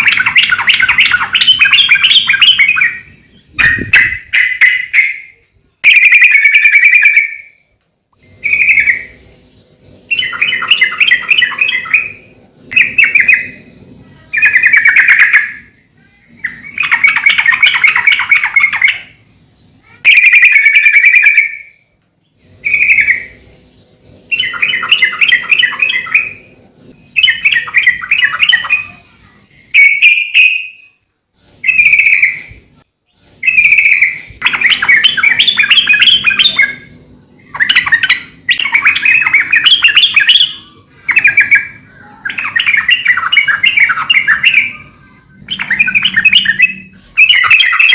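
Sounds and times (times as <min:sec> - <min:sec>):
bulbul singing bubbly chattering phrases: 0:00.0 - 0:07.4, 0:10.0 - 0:21.6, 0:22.5 - 0:30.9, 0:31.6 - 0:47.9.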